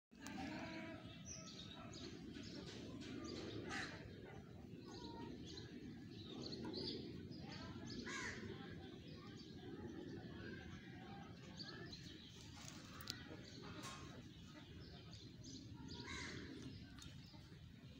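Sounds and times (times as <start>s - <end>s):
small birds chirping: 0.2s - 17.9s.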